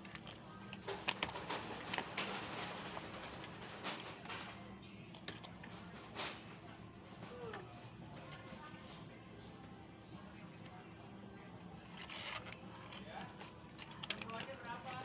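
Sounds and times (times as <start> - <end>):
background chatter: 0.0 - 15.0.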